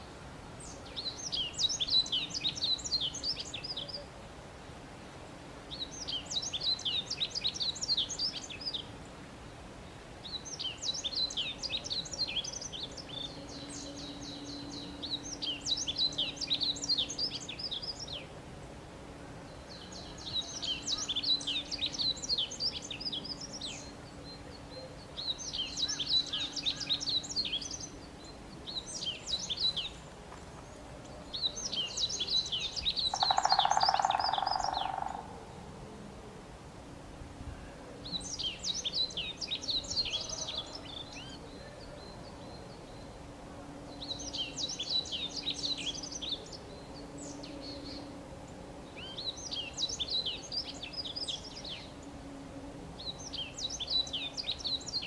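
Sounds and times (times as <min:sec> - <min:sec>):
songbird chirping: 0:00.0 - 0:36.7, 0:37.4 - 0:55.0
faint low hum: 0:00.0 - 0:55.0.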